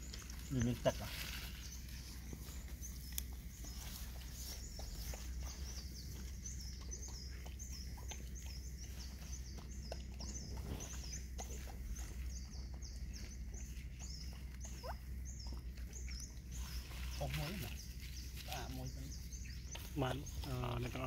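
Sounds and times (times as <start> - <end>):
dogs chewing and lapping: 0.0 - 21.0.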